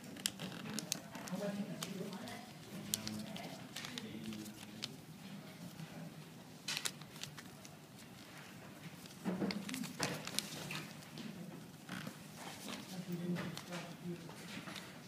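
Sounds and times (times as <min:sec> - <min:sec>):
paper being folded and creased: 0:00.0 - 0:05.0, 0:06.6 - 0:15.0.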